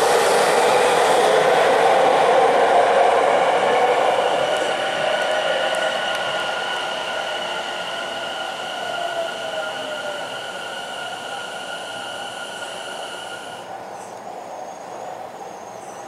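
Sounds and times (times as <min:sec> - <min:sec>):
electric train whine: 0:00.0 - 0:16.0
train hiss: 0:00.0 - 0:16.0.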